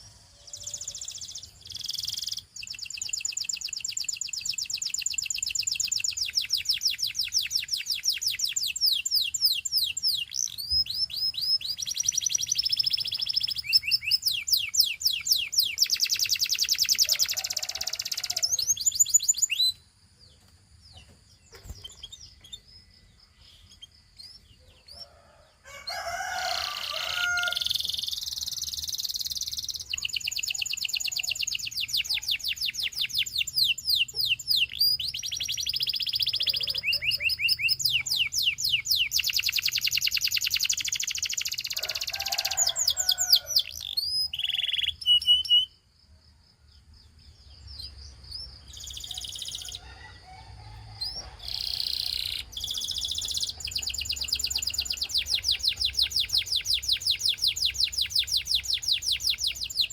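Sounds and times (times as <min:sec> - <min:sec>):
canary singing trills: 0:00.0 - 0:45.9, 0:47.1 - 0:59.9.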